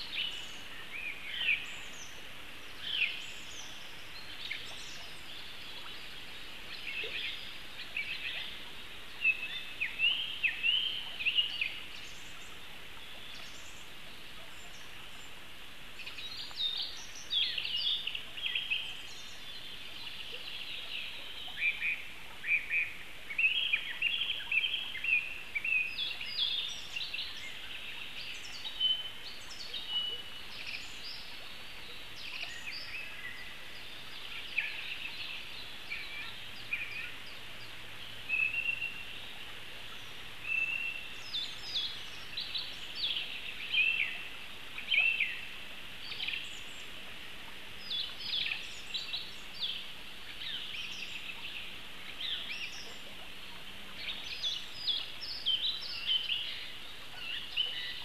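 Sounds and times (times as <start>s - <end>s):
songbirds chirping: 0.0s - 58.0s
steady background hiss: 0.0s - 58.0s.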